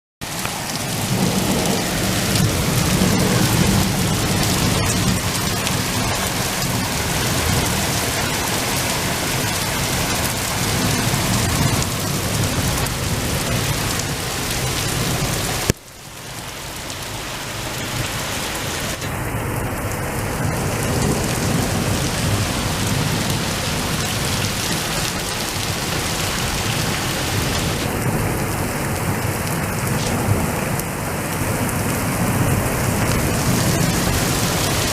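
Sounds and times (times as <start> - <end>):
thunder rumbling: 0.2 - 15.8, 17.0 - 34.9
heavy rain pouring: 0.2 - 34.9.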